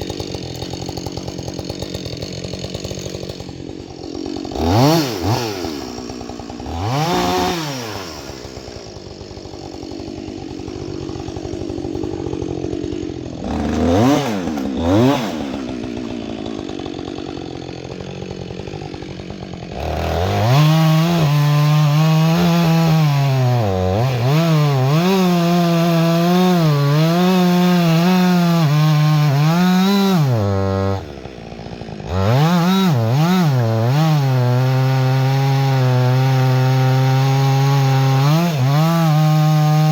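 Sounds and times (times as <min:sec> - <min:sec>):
chainsaw idling and cutting wood: 0:00.0 - 0:39.9.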